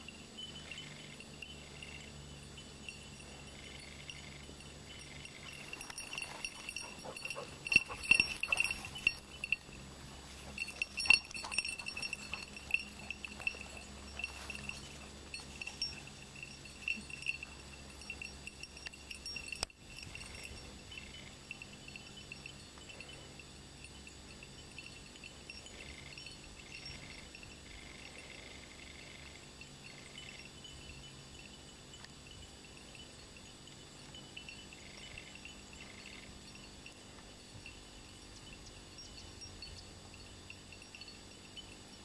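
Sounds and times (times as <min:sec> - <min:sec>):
small collar bell clinking: 0:00.0 - 0:42.0.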